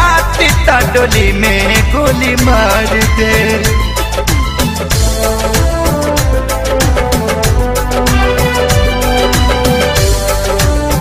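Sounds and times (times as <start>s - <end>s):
steady drum beat: 0.0s - 11.0s.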